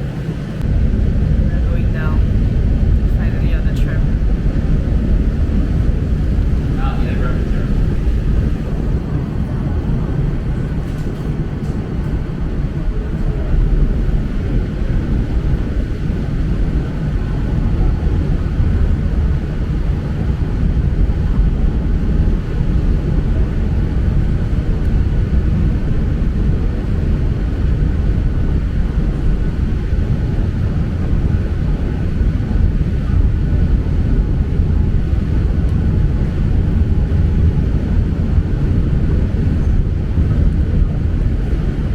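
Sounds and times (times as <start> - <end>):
faint steady whine: 0.0 - 41.9
funicular car low rumble: 0.0 - 41.9.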